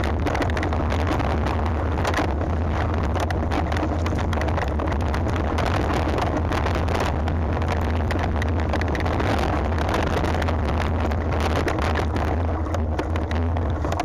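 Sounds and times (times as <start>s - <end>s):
mountain bike rattling on trail: 0.0s - 14.0s
wind on microphone: 0.0s - 14.0s.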